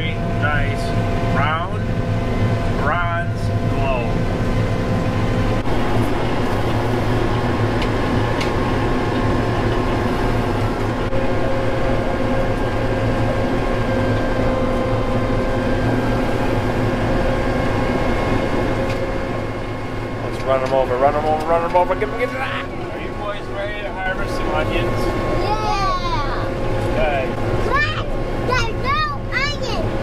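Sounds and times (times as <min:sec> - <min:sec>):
harvester engine drone: 0:00.0 - 0:30.0
steady whining tones: 0:00.0 - 0:30.0.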